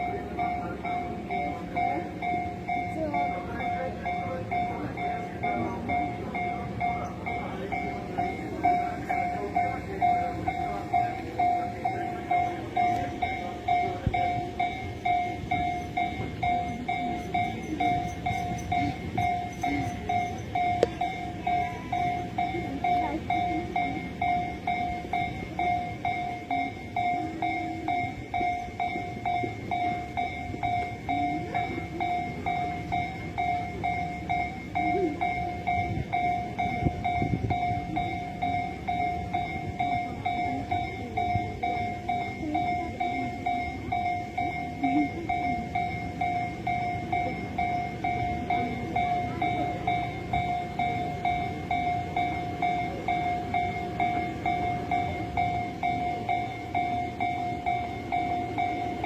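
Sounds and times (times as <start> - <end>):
level crossing bell ringing: 0.0 - 59.0
train rumbling over rails: 0.0 - 59.0.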